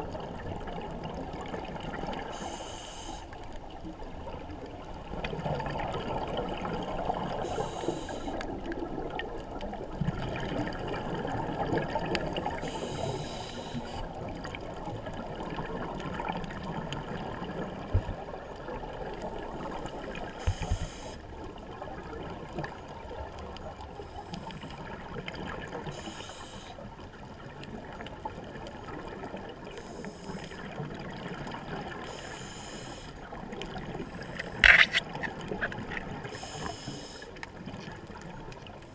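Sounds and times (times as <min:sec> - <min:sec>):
muffled underwater noise: 0:00.0 - 0:38.9.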